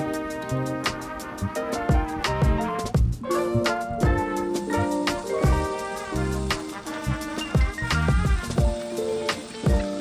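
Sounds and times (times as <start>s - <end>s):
jazzy instrumental music: 0.0s - 10.0s.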